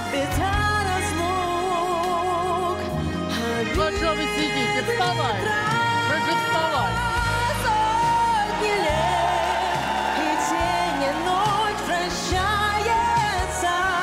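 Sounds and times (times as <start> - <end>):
pop band backing: 0.0 - 14.0
steady bass line: 0.0 - 14.0.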